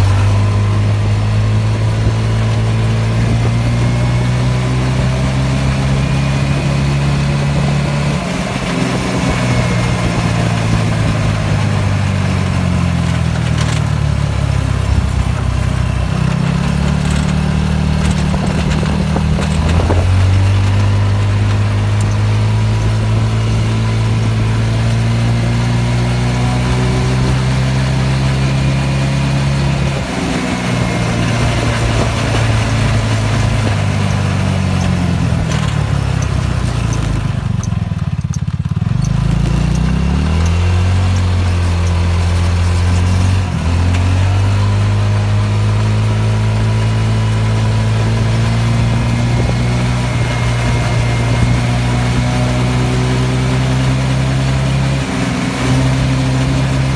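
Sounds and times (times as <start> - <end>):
go-kart engine running: 0.0 - 56.9.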